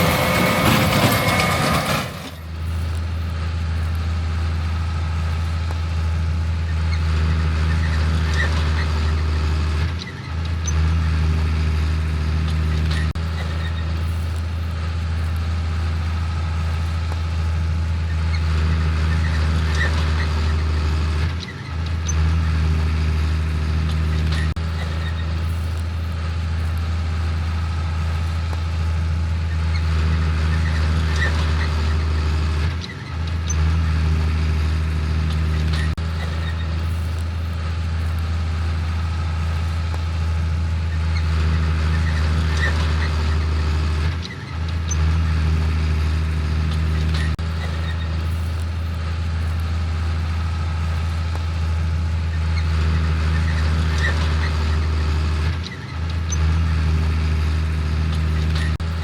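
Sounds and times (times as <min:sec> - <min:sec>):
farm machinery engine rumble: 0:00.0 - 0:59.0.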